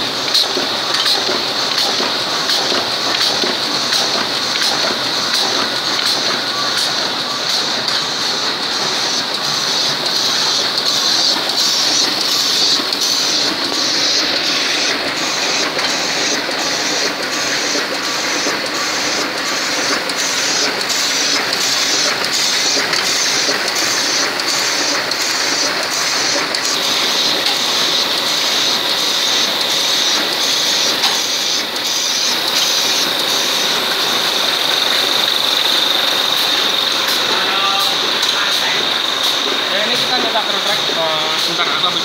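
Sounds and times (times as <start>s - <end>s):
printing press clattering: 0.0s - 42.0s.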